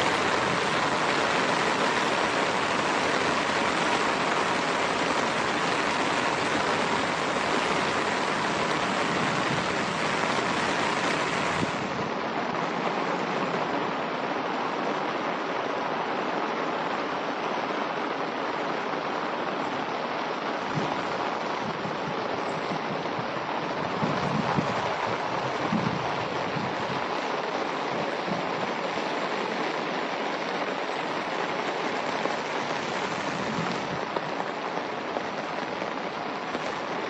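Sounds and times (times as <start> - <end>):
rain falling on grass: 0.0 - 37.0.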